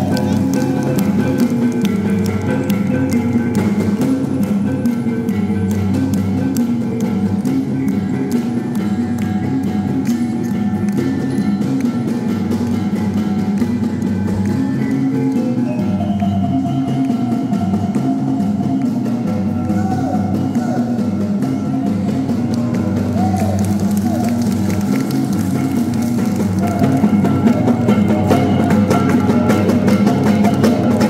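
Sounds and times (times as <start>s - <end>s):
gong-like mallet percussion: 0.0s - 31.0s.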